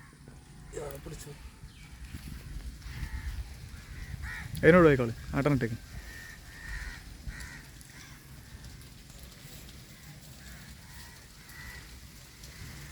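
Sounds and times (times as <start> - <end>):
low outdoor rumble: 0.0 - 12.9.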